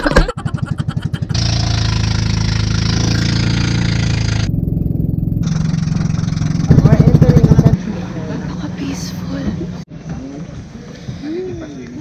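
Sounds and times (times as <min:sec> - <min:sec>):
boat engine chugging: 0:00.0 - 0:09.8.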